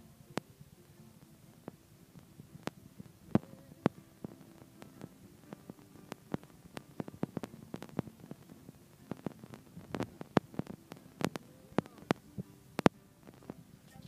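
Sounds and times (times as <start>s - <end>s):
faint hum: 0.0s - 14.0s
faint string music: 0.0s - 14.0s
sharp clicks and crackles: 1.2s - 14.0s.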